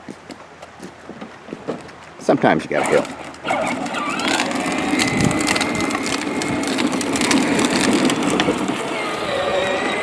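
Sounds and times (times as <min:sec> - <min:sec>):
wheels crunching over rough ground: 0:00.0 - 0:10.0.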